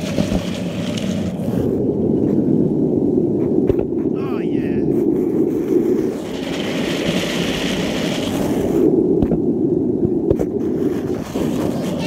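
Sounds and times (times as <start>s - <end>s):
skateboard wheels rumbling on asphalt: 0.0s - 12.0s.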